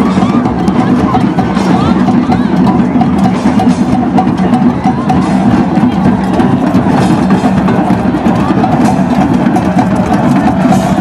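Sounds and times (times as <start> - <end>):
hand drums and percussion: 0.0 - 11.0.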